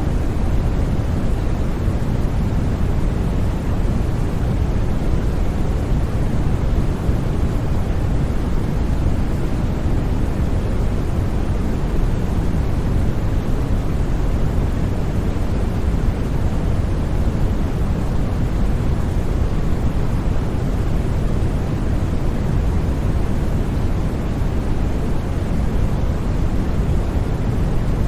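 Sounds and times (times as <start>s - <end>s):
white noise: 0.0s - 28.0s.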